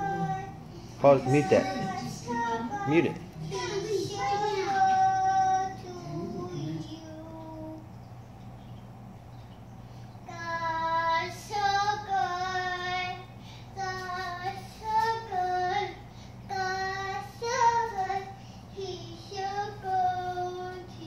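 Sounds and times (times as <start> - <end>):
girl singing: 0.0 - 7.9, 10.3 - 21.0.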